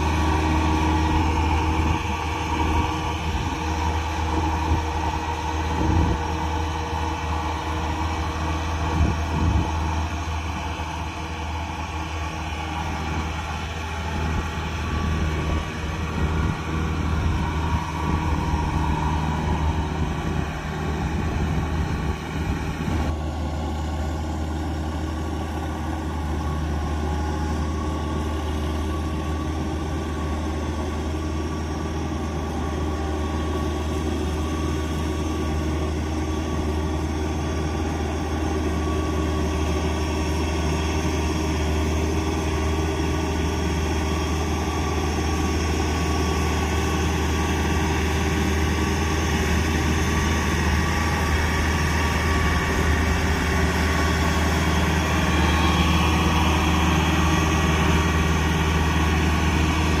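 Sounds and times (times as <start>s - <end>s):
combine harvester running: 0.0s - 60.0s.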